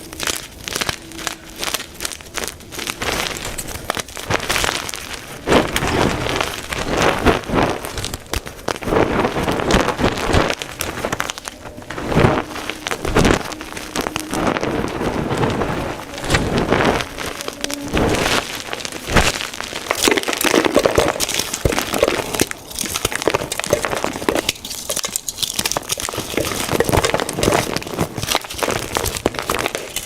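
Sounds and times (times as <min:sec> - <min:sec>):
chalk crunching and crackling: 0:00.0 - 0:30.0.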